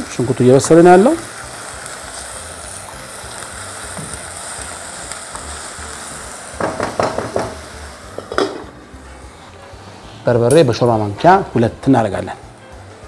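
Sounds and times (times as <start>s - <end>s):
onions sizzling in a pot: 0.0s - 13.0s.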